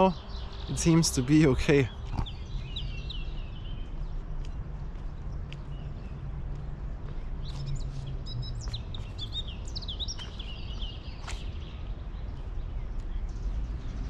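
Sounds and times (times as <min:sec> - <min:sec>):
songbird chirping and singing: 0:00.0 - 0:14.0.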